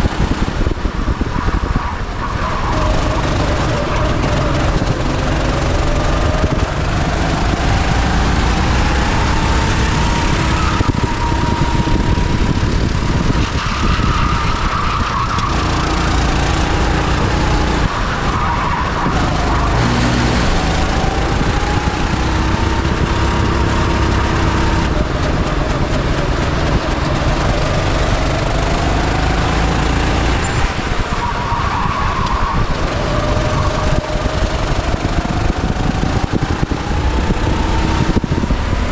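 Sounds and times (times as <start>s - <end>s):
go-kart engine accelerating: 0.0s - 38.9s.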